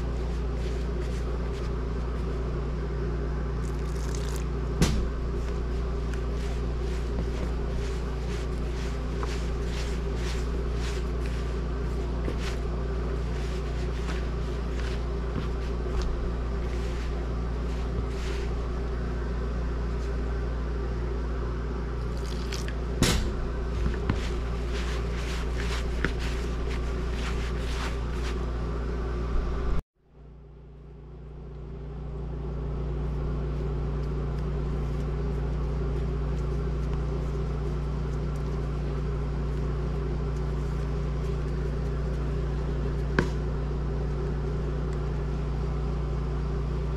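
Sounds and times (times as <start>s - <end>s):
hands mixing dough in plastic bowl: 0.0s - 20.8s, 21.8s - 28.7s, 33.0s - 46.9s
machine hum with low drone: 0.0s - 46.9s.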